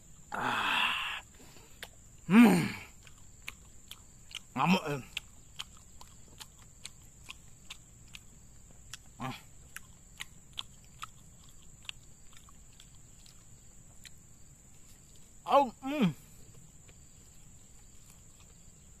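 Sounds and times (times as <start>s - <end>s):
person chewing with mouth smacking: 1.4s - 2.0s, 2.8s - 15.3s, 16.3s - 19.0s.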